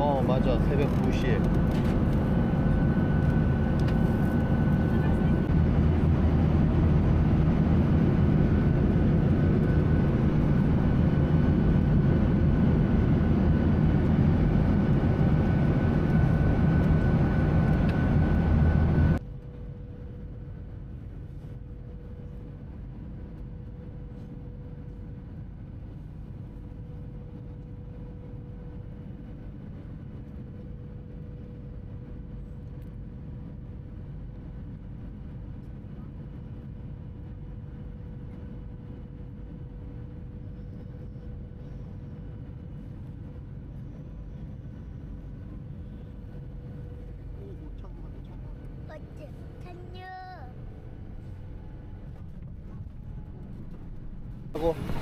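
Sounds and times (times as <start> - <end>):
jet cabin drone: 0.0 - 55.0.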